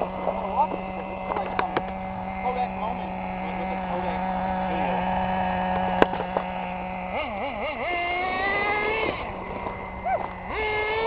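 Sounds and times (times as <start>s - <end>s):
small nitro engine running: 0.0s - 11.0s.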